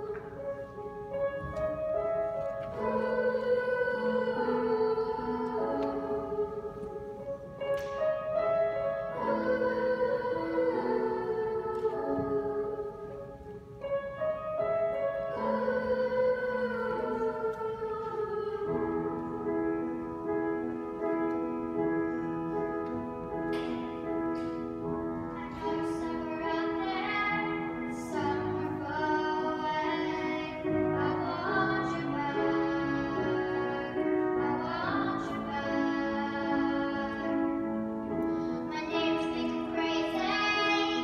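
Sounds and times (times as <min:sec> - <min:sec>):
children's choir singing: 0:00.0 - 0:13.6, 0:14.2 - 0:41.0.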